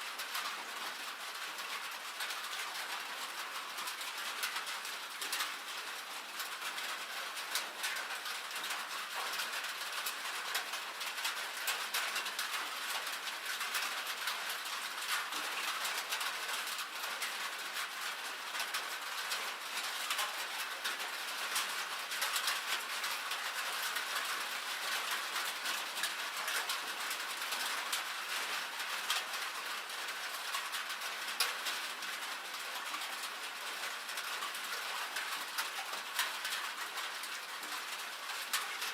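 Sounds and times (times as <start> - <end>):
rain and hail on metal roof: 0.0 - 38.9.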